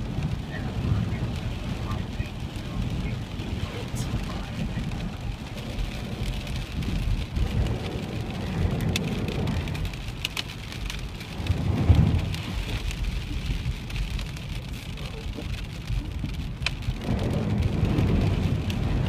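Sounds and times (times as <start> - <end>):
low road rumble: 0.0 - 19.0
rain ticking on windshield: 0.0 - 19.0
tyres hissing on wet pavement: 0.0 - 19.0.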